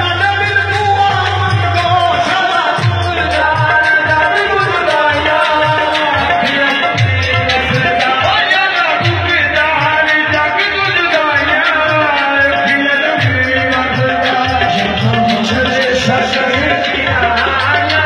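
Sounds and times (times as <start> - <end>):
person singing: 0.0 - 18.0
steady drumming: 0.0 - 18.0.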